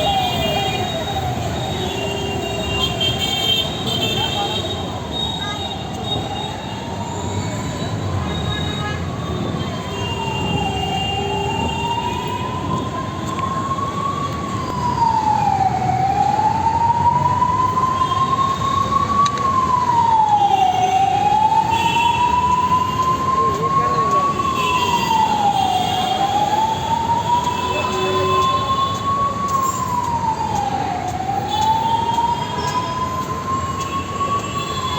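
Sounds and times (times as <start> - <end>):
emergency vehicle siren wailing: 0.0 - 34.9
street traffic noise: 0.0 - 34.9.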